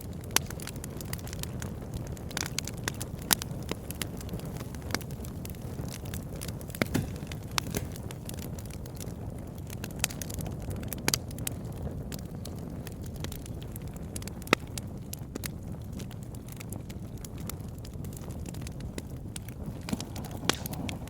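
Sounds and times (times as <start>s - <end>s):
campfire crackling and popping: 0.0s - 21.0s
low rush of fire: 0.0s - 21.0s.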